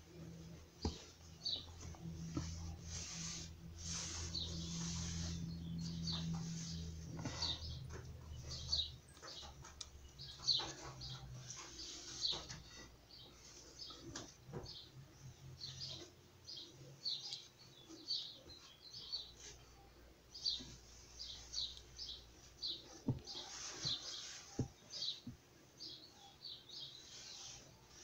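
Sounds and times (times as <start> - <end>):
small birds chirping: 0.7 - 28.0.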